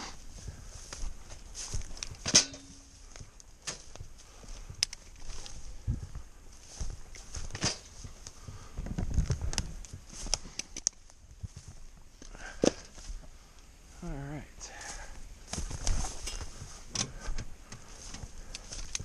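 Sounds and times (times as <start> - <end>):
footsteps: 0.0 - 13.9, 14.6 - 19.0.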